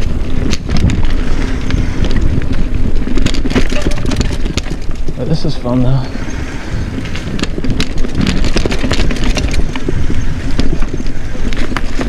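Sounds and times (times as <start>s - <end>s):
bike knocking and rattling: 0.0s - 6.0s, 6.9s - 12.0s
bike tyres rumbling on rocks: 0.0s - 12.0s.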